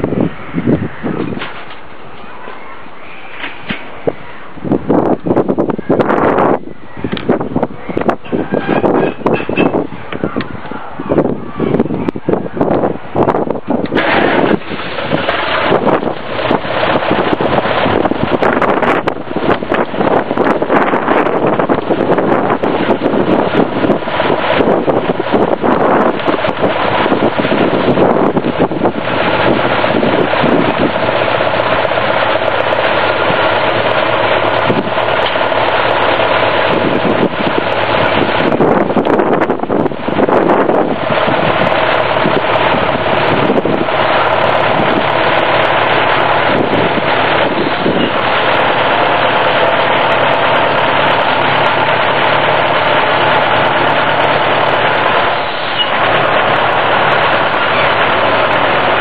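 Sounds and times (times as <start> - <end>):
tractor engine running: 0.0 - 59.0
wind rumbling on microphone: 0.0 - 59.0.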